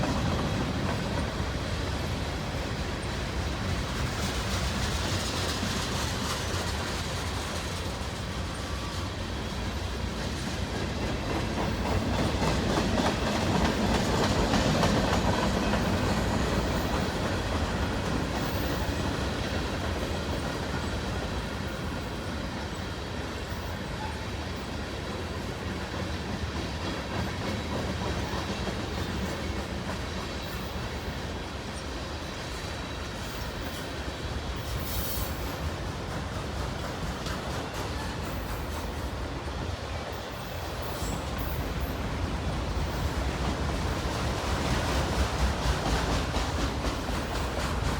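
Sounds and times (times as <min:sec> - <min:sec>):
freight train rolling past: 0:00.0 - 0:47.9
steel wheels clacking over rail joints: 0:00.0 - 0:47.9.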